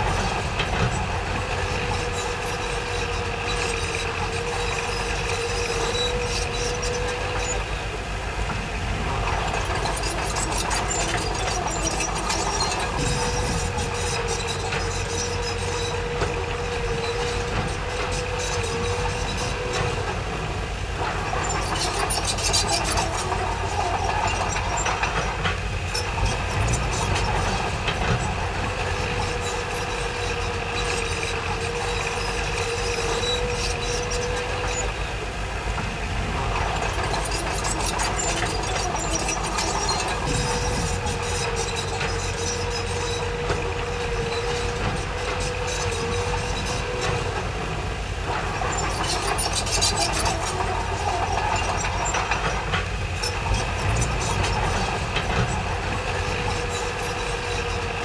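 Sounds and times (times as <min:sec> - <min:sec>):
diesel engine drone: 0:00.0 - 0:58.0
machinery whine: 0:00.0 - 0:58.0
machinery clattering: 0:08.5 - 0:58.0.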